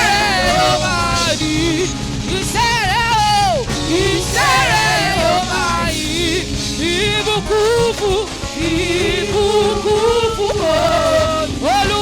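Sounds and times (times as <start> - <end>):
band holding low notes: 0.0 - 12.0.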